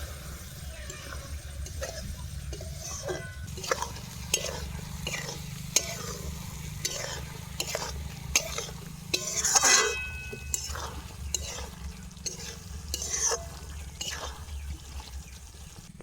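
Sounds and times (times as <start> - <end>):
food frying in oil: 0.0 - 16.0
spatula scraping frying pan: 0.0 - 16.0.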